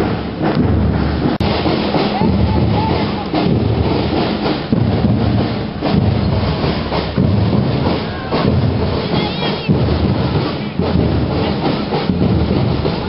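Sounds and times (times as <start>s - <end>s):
drum and bugle marching band: 0.0s - 13.0s
drum beats: 0.0s - 13.0s.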